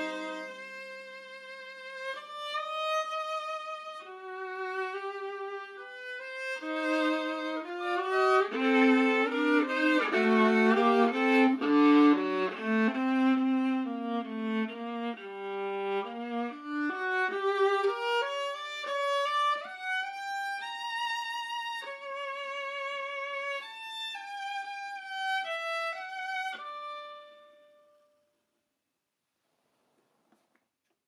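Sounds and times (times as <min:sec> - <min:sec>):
solo bowed viola melody: 0:00.0 - 0:28.2.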